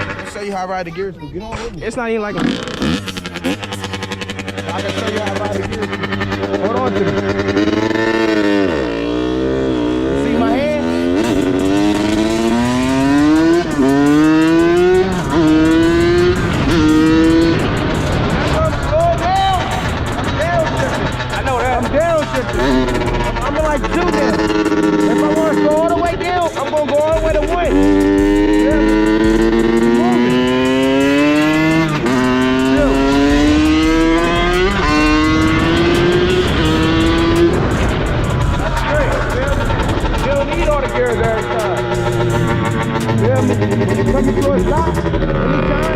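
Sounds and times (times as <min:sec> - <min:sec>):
dirt bike engine: 0:00.0 - 0:45.9.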